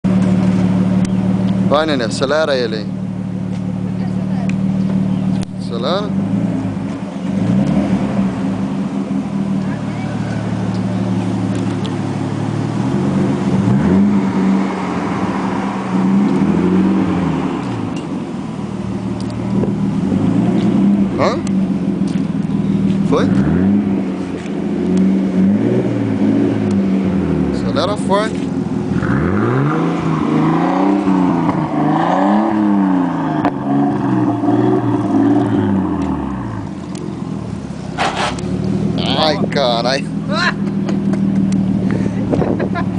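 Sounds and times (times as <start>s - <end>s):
car engine idling and revving: 0.0s - 42.9s.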